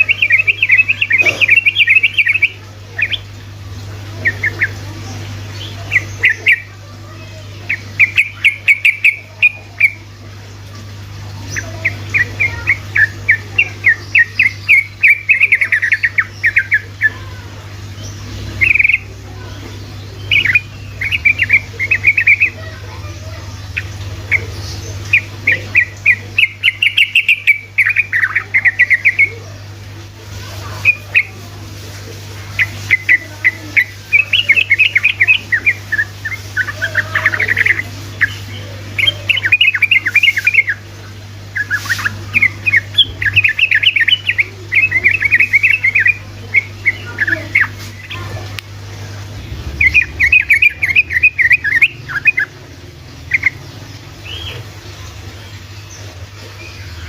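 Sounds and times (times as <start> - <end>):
bird chattering song: 0.0 - 57.0
steady low hum: 0.0 - 57.0.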